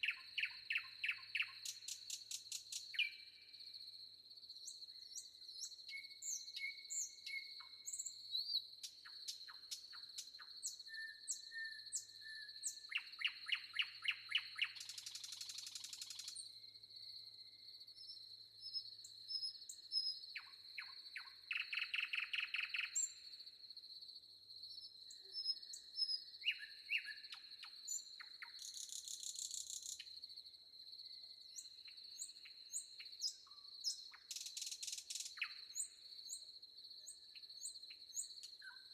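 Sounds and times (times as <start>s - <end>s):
forest birds chirping: 0.0s - 38.9s.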